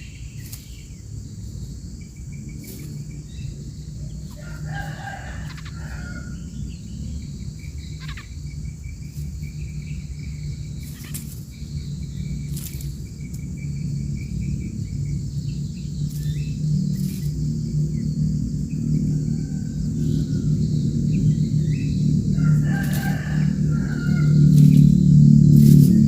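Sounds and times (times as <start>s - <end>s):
bird chirps: 0.0s - 25.0s
insects trilling: 0.0s - 26.0s
low steady hum: 0.0s - 26.0s.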